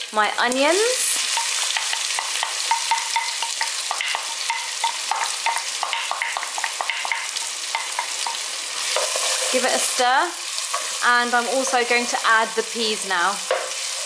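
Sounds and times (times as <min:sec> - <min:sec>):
onion sizzling in hot oil: 0:00.0 - 0:14.0.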